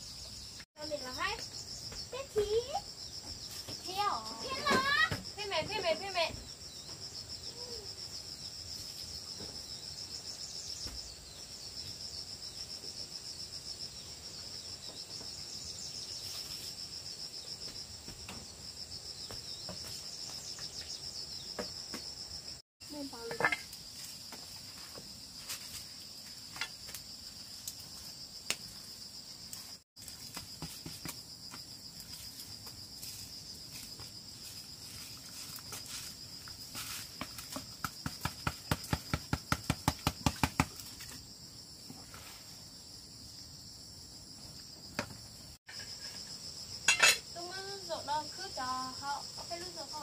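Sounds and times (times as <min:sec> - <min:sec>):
insect chorus shrilling: 0:00.0 - 0:43.7, 0:44.5 - 0:50.0.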